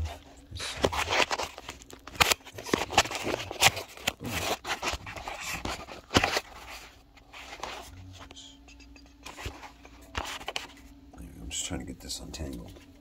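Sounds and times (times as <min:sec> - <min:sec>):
scraping and rustling handling: 0:00.0 - 0:10.9.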